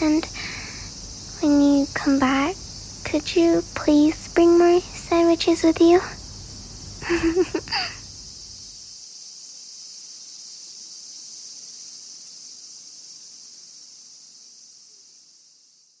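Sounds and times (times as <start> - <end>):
cicada chorus buzzing: 0.0 - 16.0.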